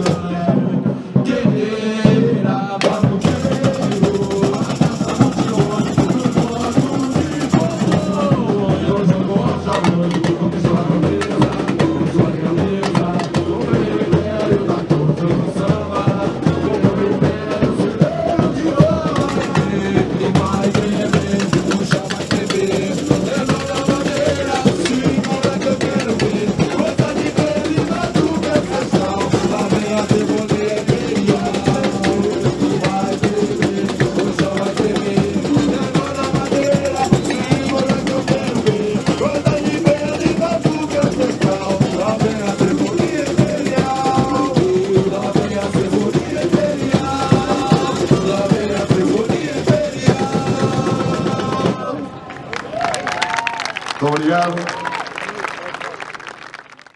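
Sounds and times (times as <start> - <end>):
samba drums and percussion: 0.0 - 55.4.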